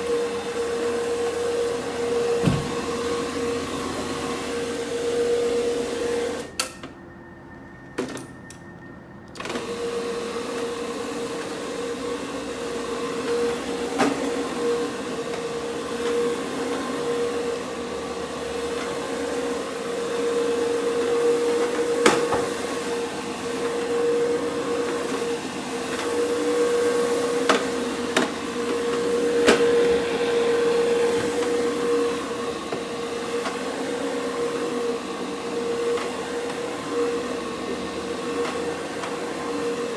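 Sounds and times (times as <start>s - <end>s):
carpet cleaning machine humming: 0.0s - 8.1s, 9.4s - 39.9s.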